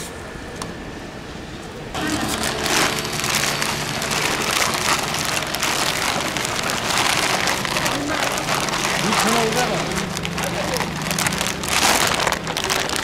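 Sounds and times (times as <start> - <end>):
plastic bag crinkling: 2.0 - 13.0.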